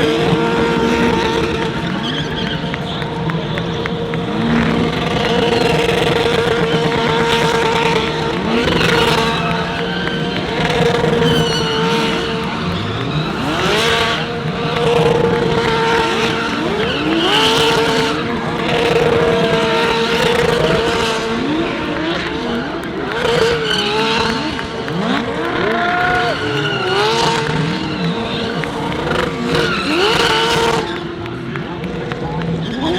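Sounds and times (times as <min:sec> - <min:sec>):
race car engines revving: 0:00.0 - 0:32.9.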